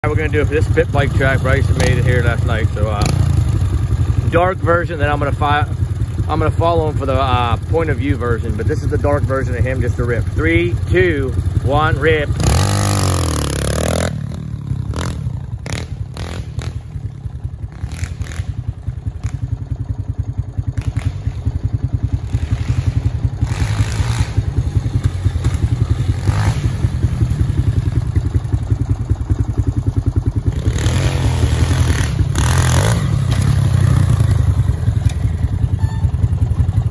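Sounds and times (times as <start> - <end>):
motorbike engine running hard: 0.0 - 36.9.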